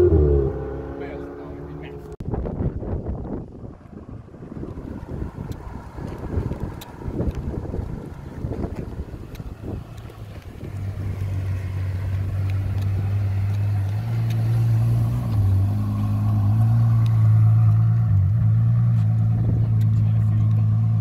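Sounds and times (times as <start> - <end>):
car engine passing at low revs: 0.0 - 21.0.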